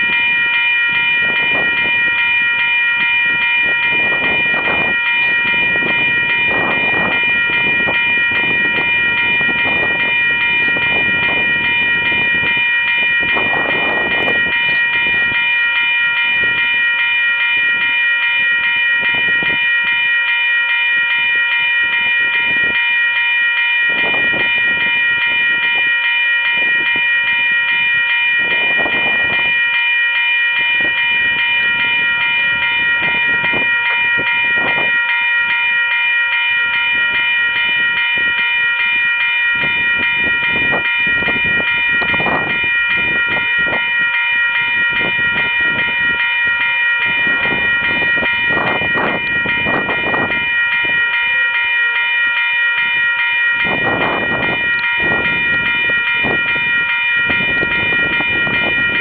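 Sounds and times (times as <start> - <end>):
freight train cars rolling past: 0.0 - 59.0
steady high-pitched tone: 0.0 - 59.0.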